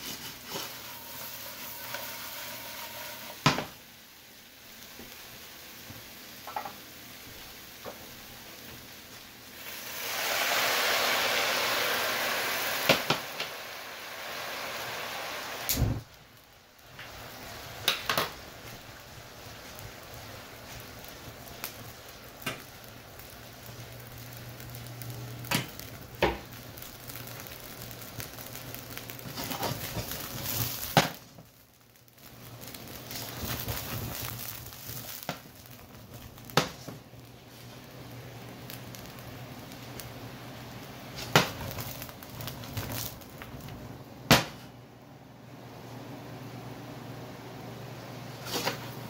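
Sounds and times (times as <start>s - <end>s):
apple slices sizzling in skillet: 0.0s - 44.7s, 46.9s - 49.0s
flambe crackling with pops: 0.0s - 45.0s, 48.1s - 49.0s.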